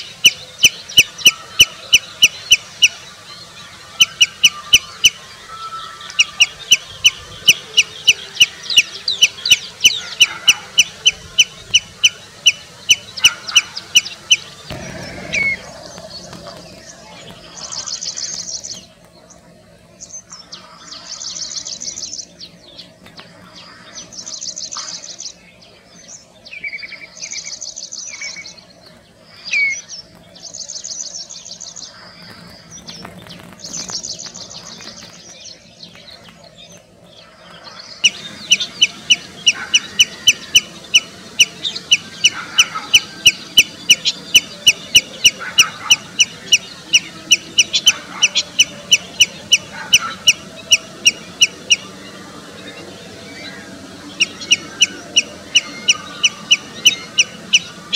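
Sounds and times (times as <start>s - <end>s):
redshank piping calls: 0.0s - 57.9s.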